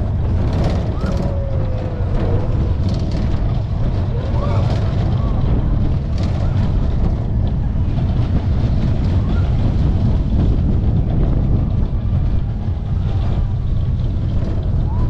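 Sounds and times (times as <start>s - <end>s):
coaster wheels rumbling on track: 0.0s - 15.0s
wind rushing over microphone: 0.0s - 15.0s.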